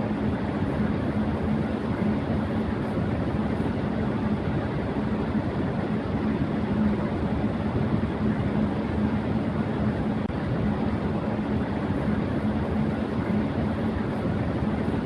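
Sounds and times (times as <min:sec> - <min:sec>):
electric fan rushing air: 0:00.0 - 0:15.0.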